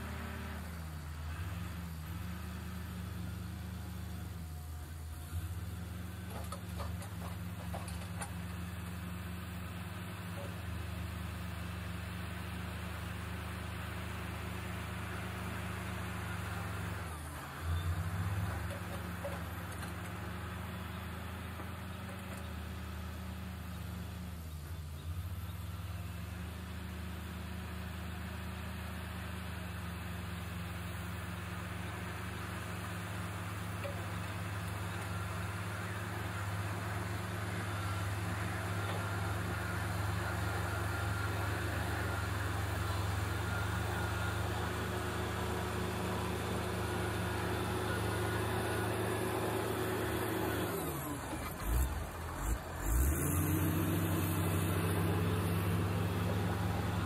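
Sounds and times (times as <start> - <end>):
heavy diesel engines droning: 0.0 - 57.0.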